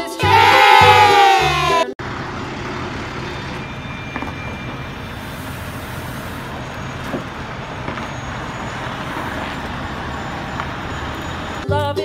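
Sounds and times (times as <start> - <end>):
diesel truck engine running: 2.0 - 11.7.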